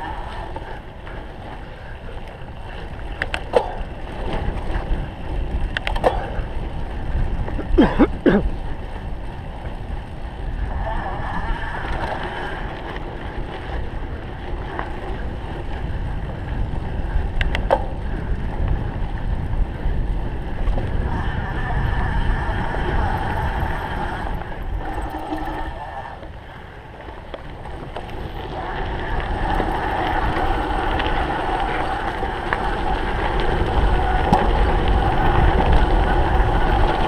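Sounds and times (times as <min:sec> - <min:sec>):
bike clicks and rattles: 0:00.0 - 0:37.0
bike tyres rumbling on rough ground: 0:00.0 - 0:37.0
wind buffeting microphone: 0:00.0 - 0:37.0.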